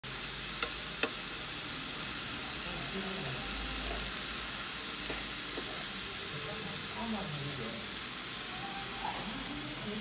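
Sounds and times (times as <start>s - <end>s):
pork sizzling on grill: 0.0s - 10.0s.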